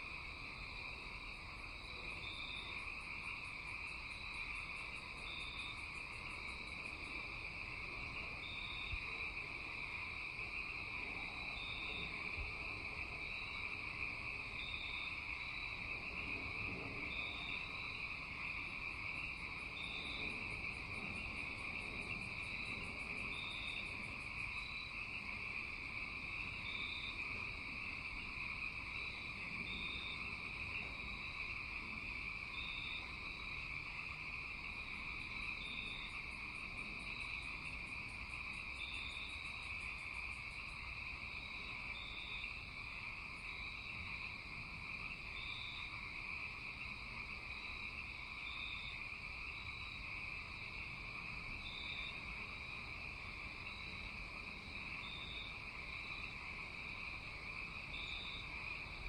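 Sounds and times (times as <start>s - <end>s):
steady insect trill: 0.0s - 59.0s.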